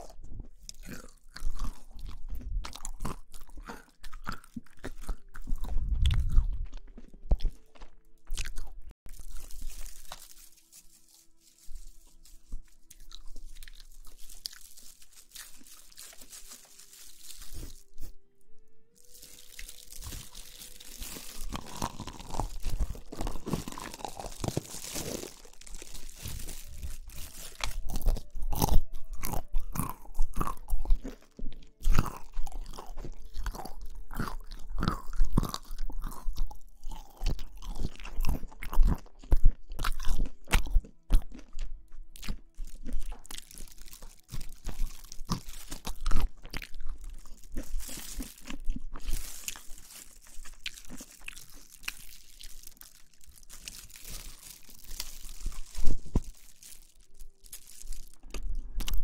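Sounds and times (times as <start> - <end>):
chewing crisp food: 0.0 - 59.0.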